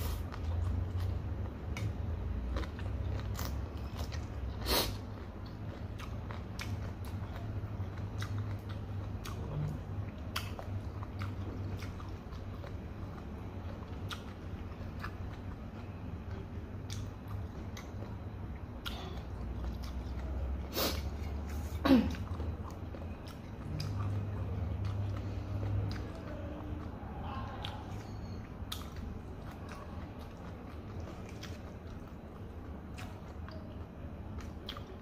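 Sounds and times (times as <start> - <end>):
steady low hum: 0.0 - 35.0
person chewing with wet clicks: 0.1 - 35.0.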